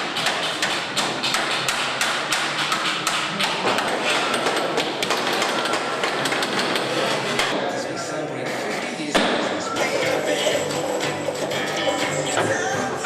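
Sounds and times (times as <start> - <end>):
workshop din: 0.0 - 13.0.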